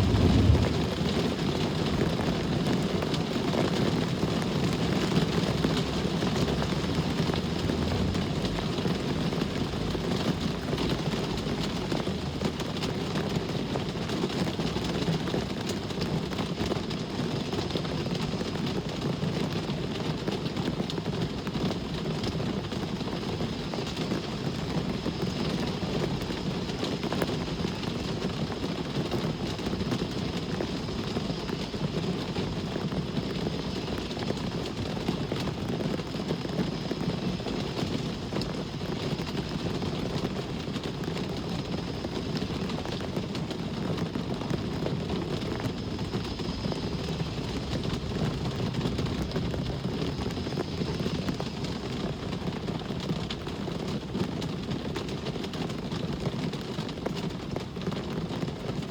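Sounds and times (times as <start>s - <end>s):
low rumble of road traffic: 0.0s - 58.9s
steady rain: 0.0s - 58.9s.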